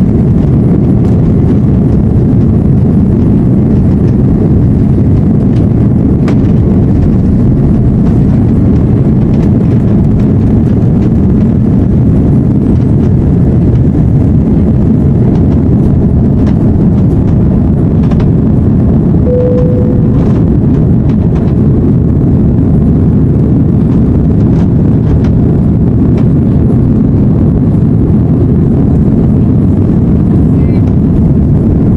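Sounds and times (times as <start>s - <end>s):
jet engine cabin rumble: 0.0s - 31.9s.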